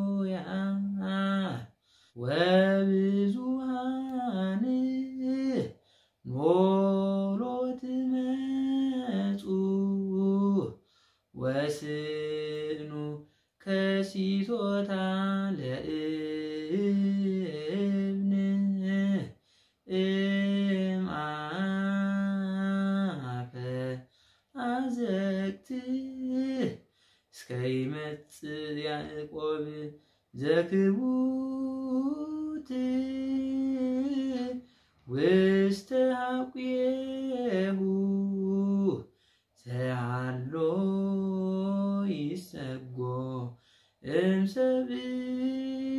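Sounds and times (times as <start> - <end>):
man singing a hymn unaccompanied: 0.0 - 45.9.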